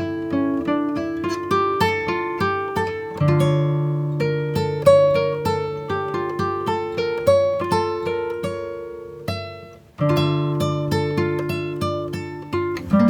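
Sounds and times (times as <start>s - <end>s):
acoustic guitar picking: 0.0s - 13.0s.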